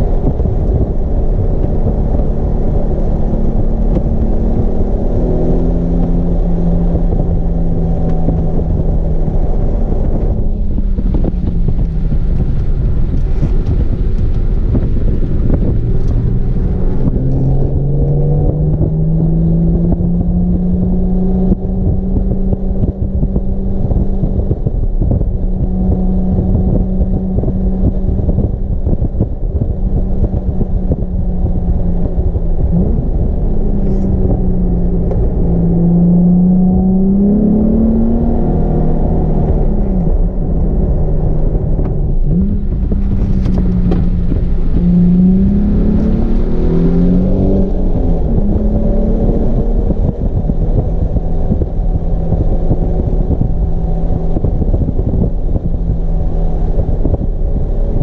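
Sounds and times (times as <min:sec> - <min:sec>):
car engine revving: 0:00.0 - 0:58.0
road and wind rumble: 0:00.0 - 0:58.0.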